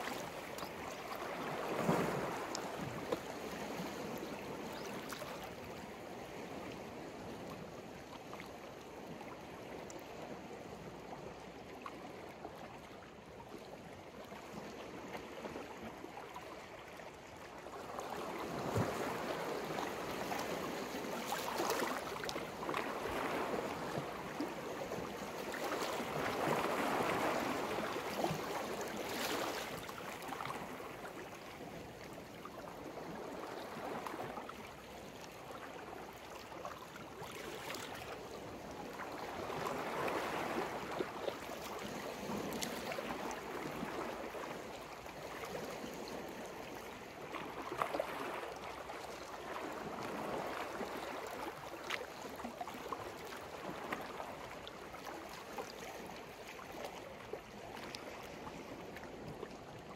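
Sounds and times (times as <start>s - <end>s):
waves breaking gently on shore: 0.0s - 59.9s.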